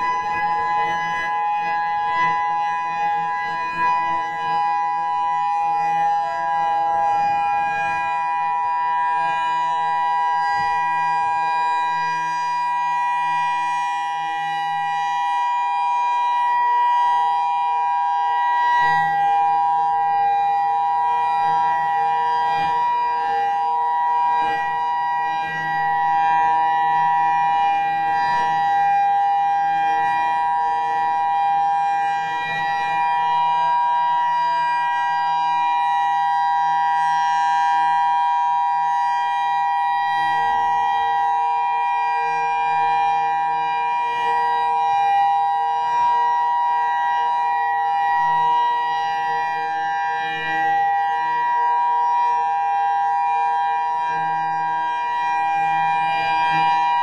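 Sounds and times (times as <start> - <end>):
electronic siren steady tones: 0.0 - 57.0.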